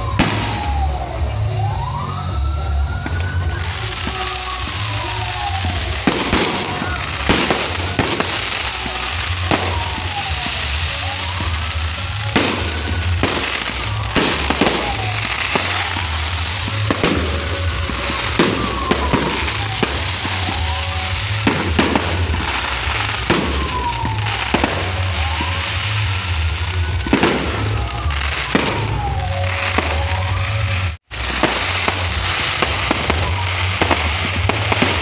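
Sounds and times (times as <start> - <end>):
crackling hiss of fireworks: 0.0 - 35.0
fireworks bangs: 0.0 - 35.0.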